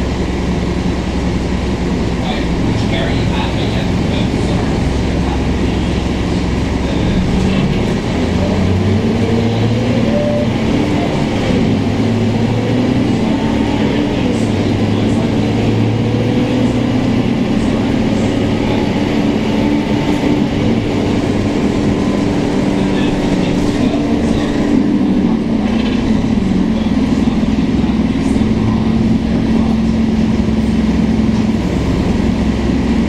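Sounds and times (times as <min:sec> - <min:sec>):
bus diesel engine: 0:00.0 - 0:33.0.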